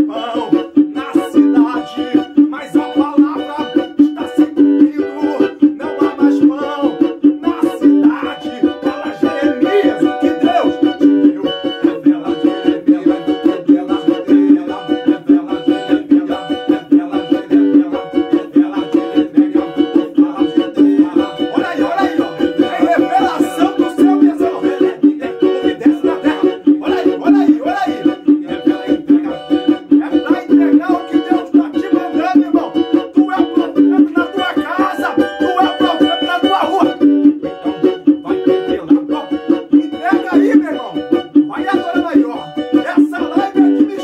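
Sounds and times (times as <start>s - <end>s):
fast strummed cavaquinho: 0.0s - 44.0s
men singing: 0.0s - 44.0s.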